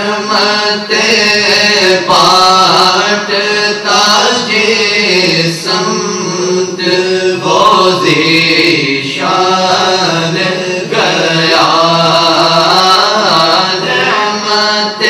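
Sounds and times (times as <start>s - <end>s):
low vocal drone: 0.0s - 15.0s
men singing a cappella: 0.0s - 15.0s.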